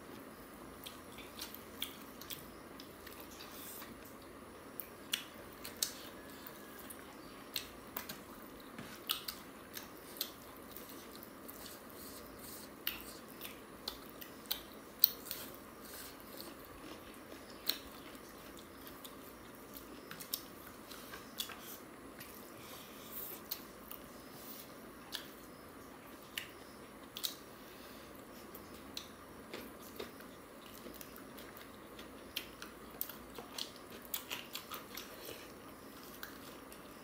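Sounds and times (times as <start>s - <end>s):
people chewing food: 0.0s - 37.0s.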